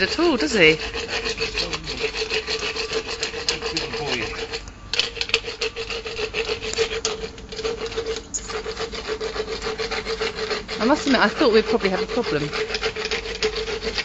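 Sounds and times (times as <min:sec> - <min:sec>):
rasping horse's teeth: 0:00.0 - 0:14.0
steady hum: 0:00.0 - 0:14.0.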